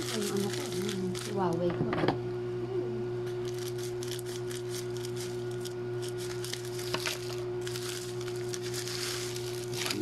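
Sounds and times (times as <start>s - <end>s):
plastic packaging crinkling: 0.0s - 1.6s, 3.4s - 10.0s
electrical hum: 0.0s - 10.0s.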